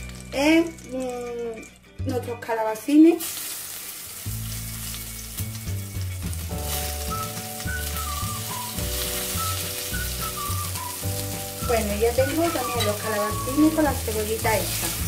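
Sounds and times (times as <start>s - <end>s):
vegetables sizzling in oil: 0.0s - 1.7s, 2.8s - 15.0s
background music: 0.0s - 15.0s.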